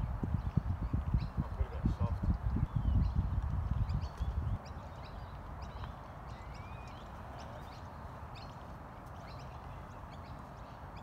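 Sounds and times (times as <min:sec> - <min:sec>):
low rumble of outdoor air: 0:00.0 - 0:11.0
small birds chirping: 0:00.0 - 0:11.0.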